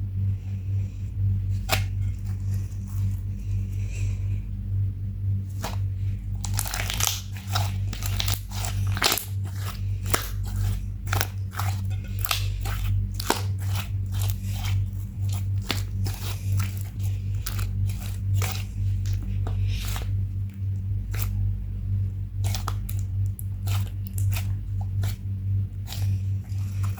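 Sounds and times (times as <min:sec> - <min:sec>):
low hum: 0:00.0 - 0:26.9
slime squished by hand: 0:01.5 - 0:04.2, 0:05.5 - 0:21.4, 0:22.4 - 0:26.9.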